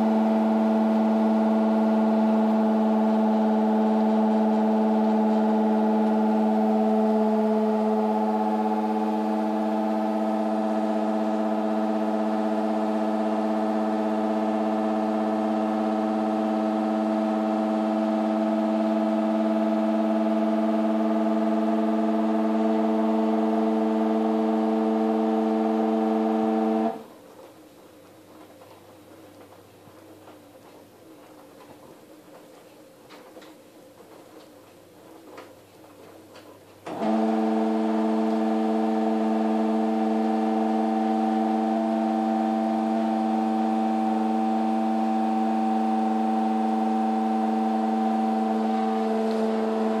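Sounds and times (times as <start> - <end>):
washer dryer humming drone: 0.0 - 50.0.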